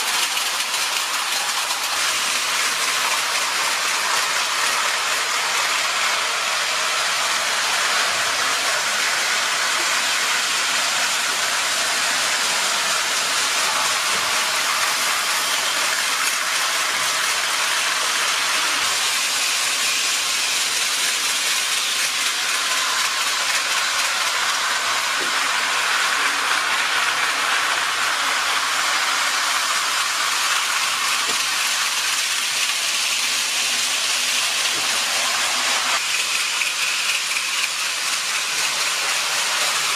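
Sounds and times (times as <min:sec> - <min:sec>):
model trains rolling on metal track: 0:00.0 - 0:39.9.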